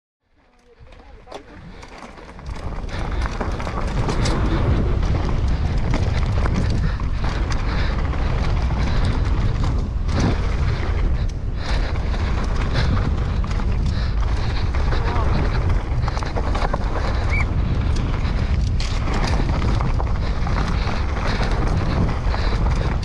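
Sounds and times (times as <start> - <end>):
bike rattling and clicking: 0.2 - 23.0
bike tyre noise: 0.2 - 23.0
wind buffeting microphone: 0.5 - 23.0.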